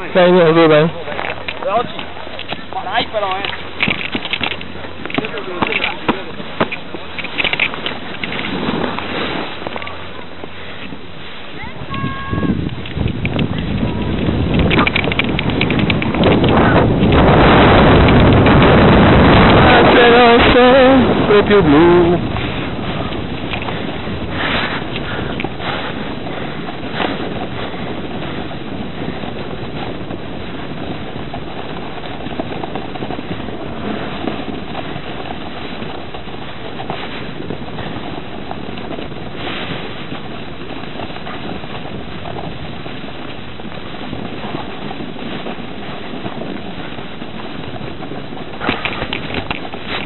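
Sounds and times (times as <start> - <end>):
wind rushing over microphone: 0.0 - 50.0
snowboard scraping across snow: 4.6 - 14.9, 15.5 - 50.0.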